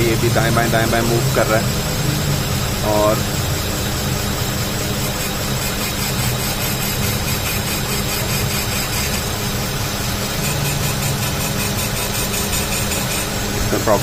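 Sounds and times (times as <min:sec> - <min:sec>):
car engine humming: 0:00.0 - 0:14.0
bent brake rotor spinning: 0:02.5 - 0:13.8.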